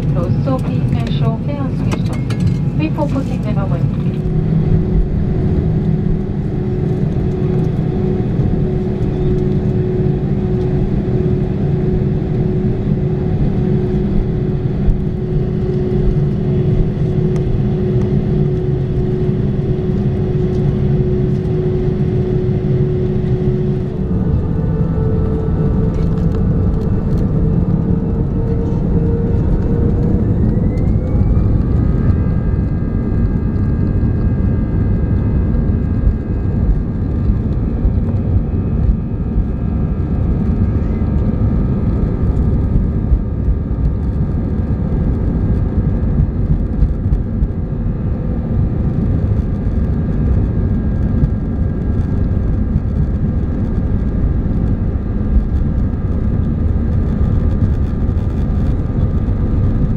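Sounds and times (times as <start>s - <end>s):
aircraft cabin rumble: 0.0s - 59.9s.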